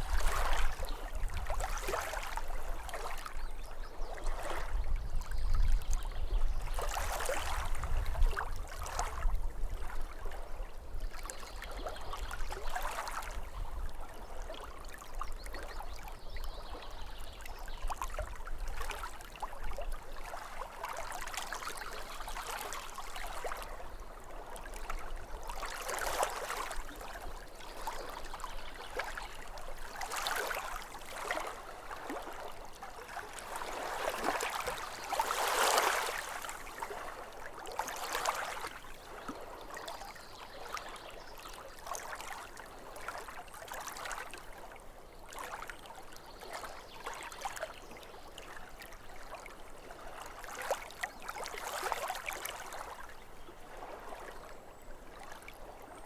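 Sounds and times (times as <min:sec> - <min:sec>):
small waves lapping at shore: 0:00.0 - 0:56.0.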